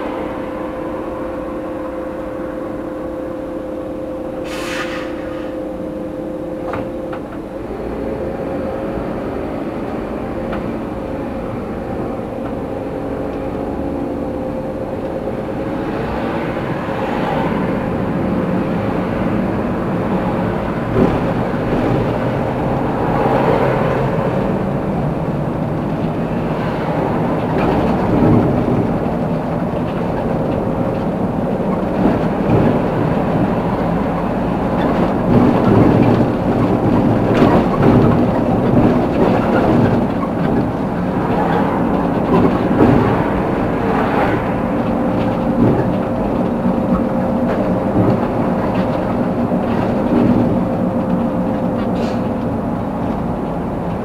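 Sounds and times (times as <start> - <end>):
tram motor hum: 0.0 - 54.0
tram motors whining: 0.0 - 54.0
wheels rumbling on rail: 0.0 - 54.0.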